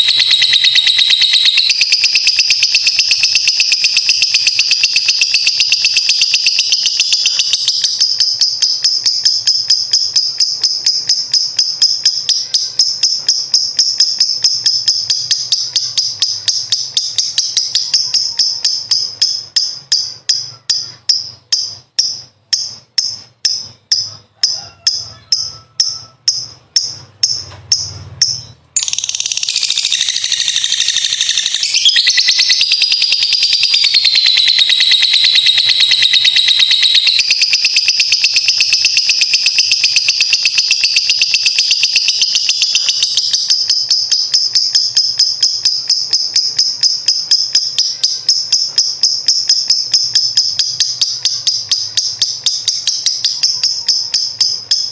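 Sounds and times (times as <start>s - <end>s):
lovebird shrill chatter: 0.0s - 54.9s
shrill bird trill: 0.0s - 54.9s.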